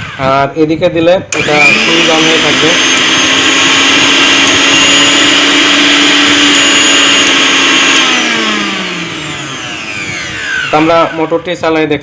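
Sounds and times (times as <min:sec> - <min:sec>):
blender motor whining: 0:00.0 - 0:00.5, 0:01.3 - 0:12.0.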